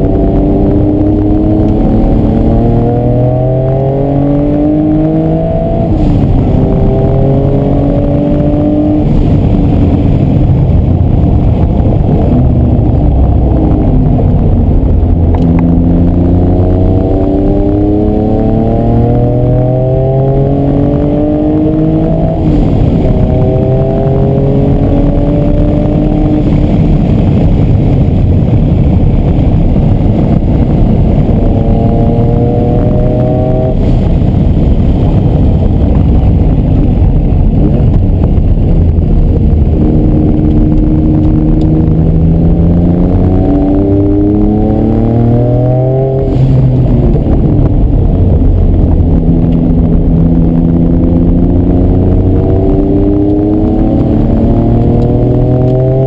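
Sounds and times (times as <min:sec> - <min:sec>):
car engine accelerating: 0:00.0 - 0:56.0
road noise: 0:00.0 - 0:56.0.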